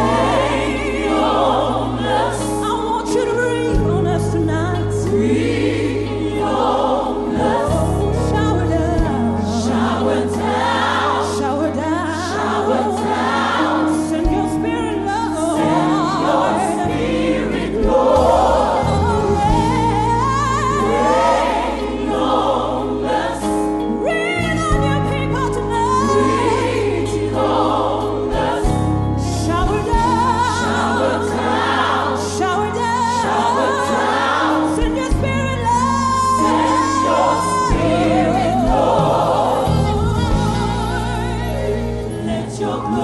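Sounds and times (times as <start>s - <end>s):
band playing gospel music: 0.0s - 43.0s
held bass notes: 0.0s - 43.0s
large choir singing: 0.0s - 43.0s.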